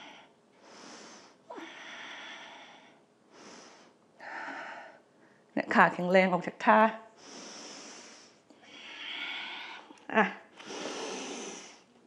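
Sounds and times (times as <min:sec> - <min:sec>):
woman breathing deeply: 0:00.0 - 0:05.5, 0:07.2 - 0:11.9.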